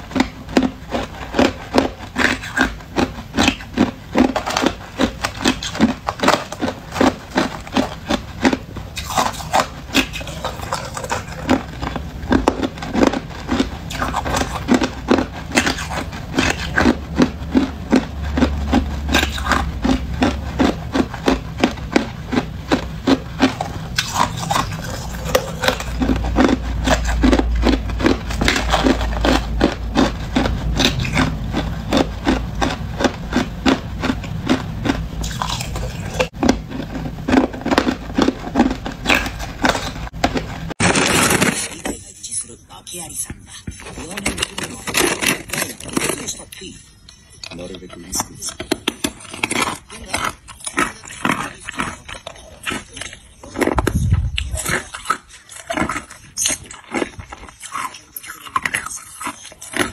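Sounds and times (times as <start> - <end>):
ice crunching between teeth: 0.0 - 59.9.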